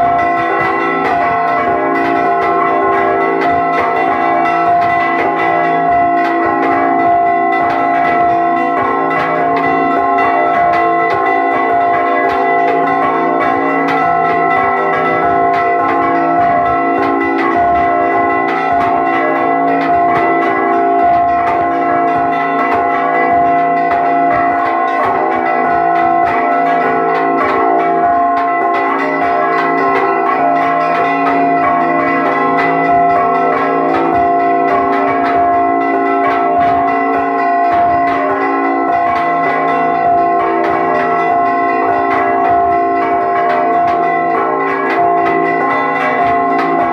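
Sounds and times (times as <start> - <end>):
church bells ringing rapidly: 0.0 - 46.9.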